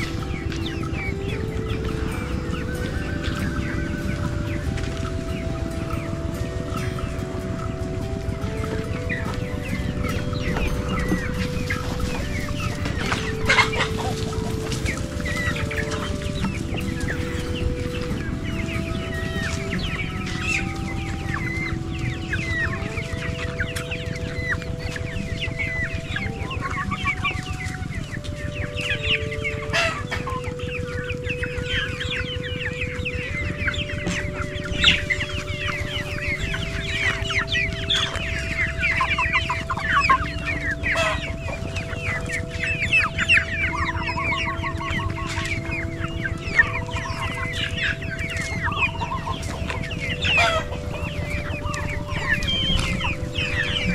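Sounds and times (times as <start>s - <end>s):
chicks cheeping and clucking: 0.0s - 53.9s.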